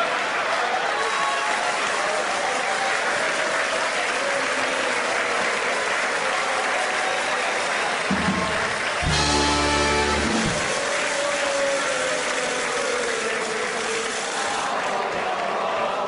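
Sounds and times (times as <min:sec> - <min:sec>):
large audience applauding: 0:00.0 - 0:16.0.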